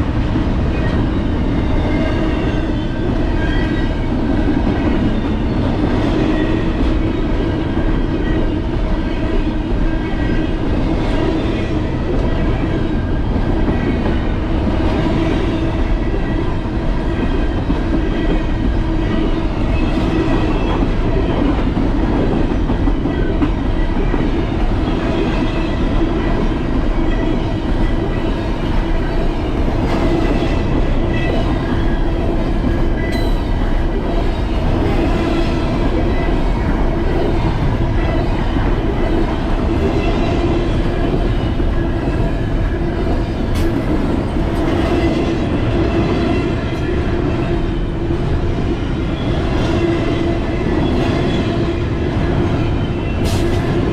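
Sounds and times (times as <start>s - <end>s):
wind: 0.0s - 53.9s.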